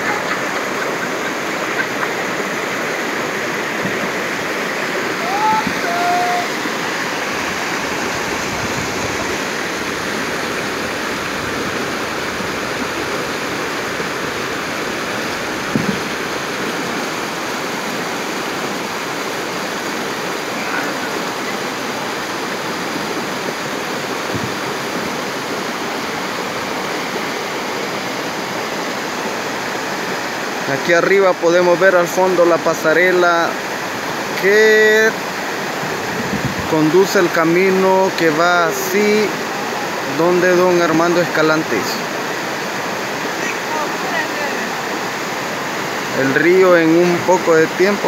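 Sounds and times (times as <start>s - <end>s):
river rushing over rocks: 0.0s - 48.0s.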